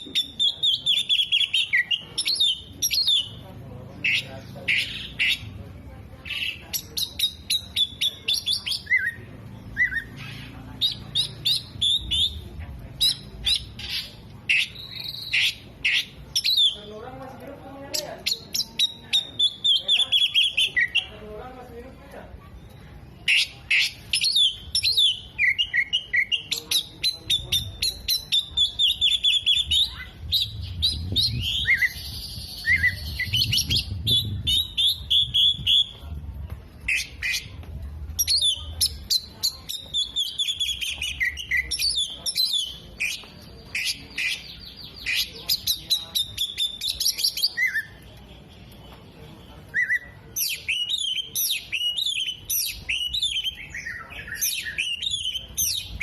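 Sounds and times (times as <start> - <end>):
songbird singing chirps and trills: 0.0 - 56.0.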